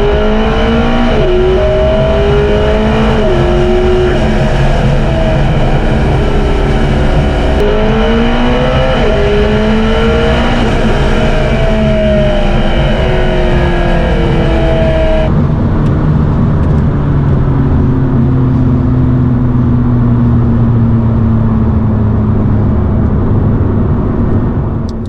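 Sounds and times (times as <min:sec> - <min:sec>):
car engine under load: 0:00.0 - 0:25.0
low falling drone: 0:00.0 - 0:25.0.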